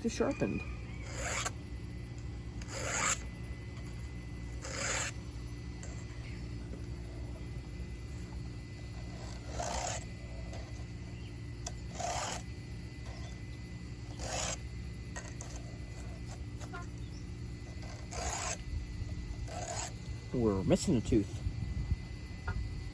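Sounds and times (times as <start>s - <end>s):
file rasping on chainsaw chain: 0.4s - 1.6s, 2.2s - 17.0s, 17.6s - 20.9s.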